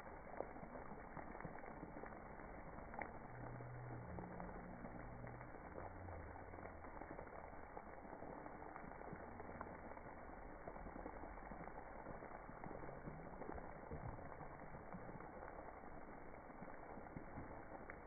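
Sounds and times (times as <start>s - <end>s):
slowed water splashing: 0.0s - 18.0s.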